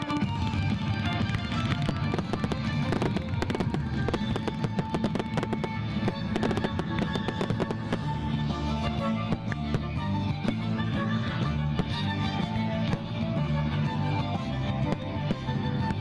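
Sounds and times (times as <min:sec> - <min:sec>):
fireworks crackling and banging: 0:00.0 - 0:13.8
music: 0:00.0 - 0:16.0.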